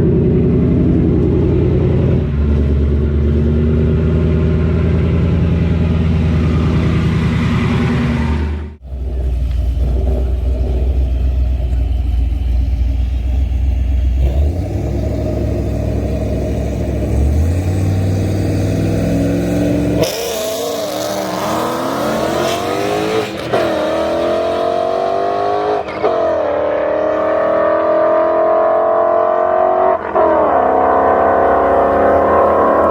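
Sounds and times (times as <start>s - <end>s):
car engine rumbling and revving: 0.0s - 32.9s.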